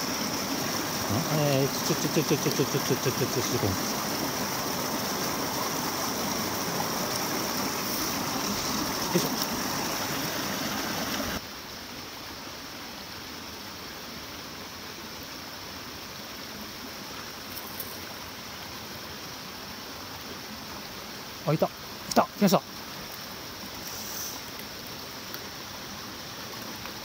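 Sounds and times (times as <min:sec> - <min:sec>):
stream water running over rocks: 0:00.0 - 0:27.0.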